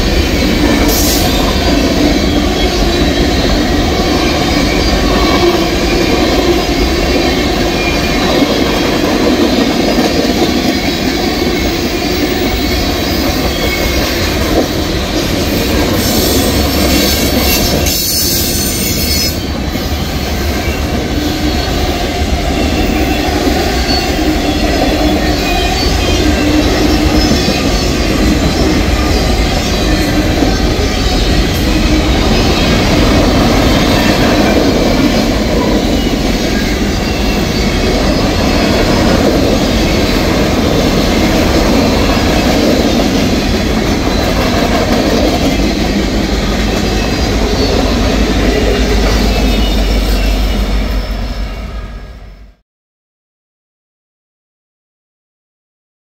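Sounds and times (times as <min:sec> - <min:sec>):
freight train wheels clattering on rail: 0:00.0 - 0:51.3
diesel locomotive passing: 0:00.0 - 0:52.6.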